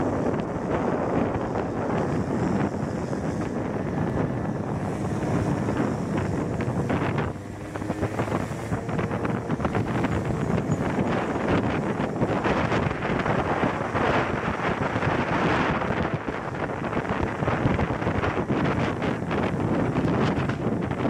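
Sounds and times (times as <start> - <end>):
scooter engine running: 0.0 - 21.0
wind buffeting microphone: 0.0 - 21.0.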